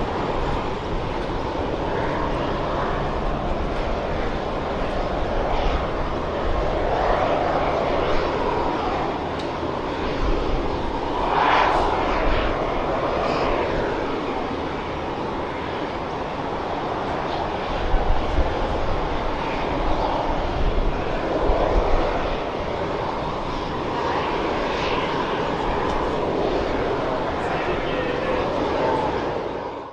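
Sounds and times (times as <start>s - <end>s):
jet engines rushing: 0.0s - 29.9s.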